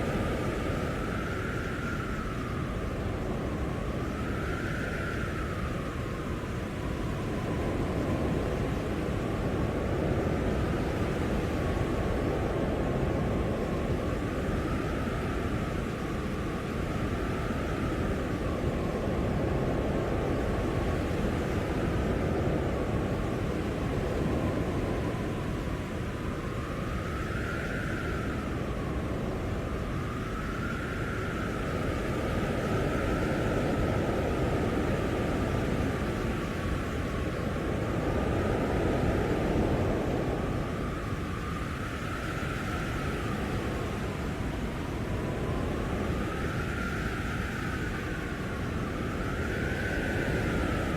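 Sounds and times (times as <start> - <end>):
blizzard wind blowing: 0.0 - 50.9.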